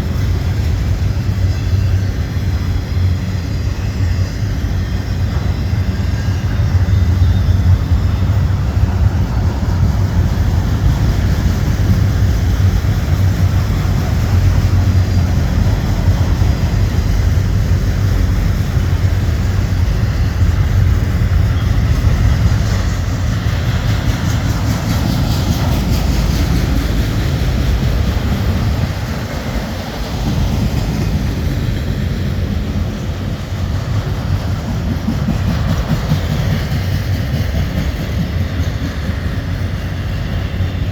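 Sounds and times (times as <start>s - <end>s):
freight train rolling past: 0.0s - 40.9s
steel wheels rumbling on rail: 0.0s - 40.9s.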